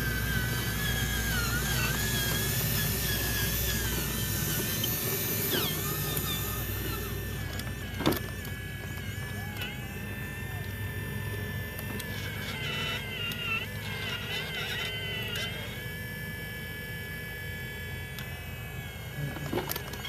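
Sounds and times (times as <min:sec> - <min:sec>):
small electric motor whining: 0:00.0 - 0:20.0.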